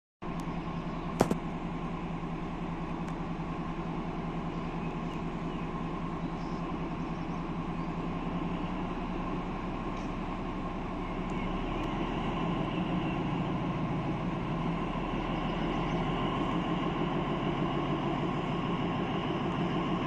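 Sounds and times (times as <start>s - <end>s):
diesel locomotive idling: 0.2s - 20.0s.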